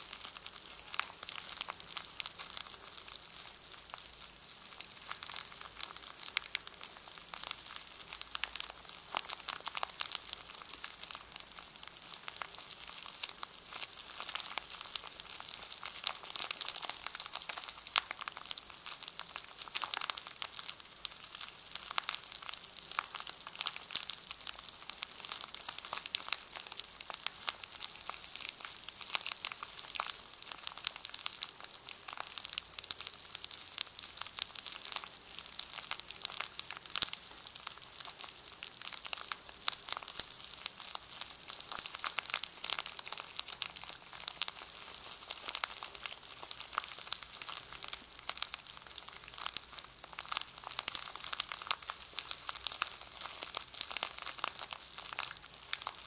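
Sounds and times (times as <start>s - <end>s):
plastic wrapper crinkling: 0.0s - 56.0s.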